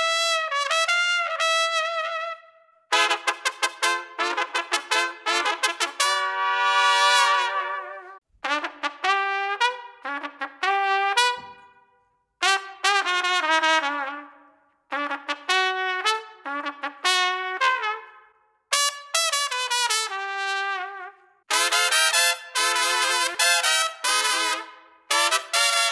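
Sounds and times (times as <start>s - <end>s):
plastic trumpet playing: 0.0s - 25.9s.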